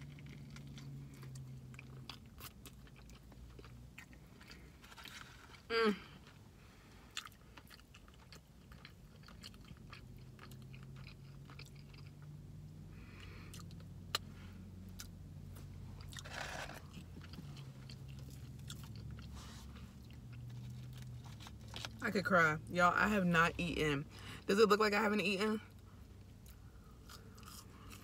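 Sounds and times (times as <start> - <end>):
person chewing: 0.0 - 22.0, 26.3 - 28.0.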